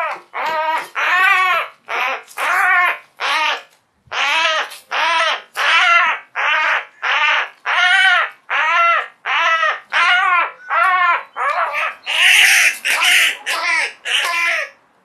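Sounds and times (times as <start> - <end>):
jackdaw distress calls: 0.0 - 14.8.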